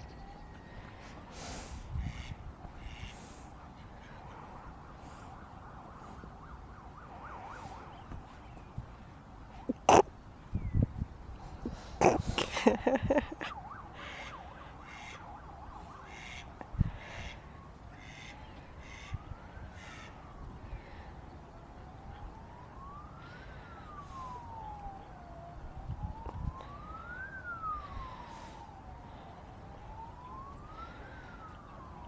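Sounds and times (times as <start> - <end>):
siren wailing: 0.0 - 1.3, 1.9 - 8.8, 12.8 - 32.0.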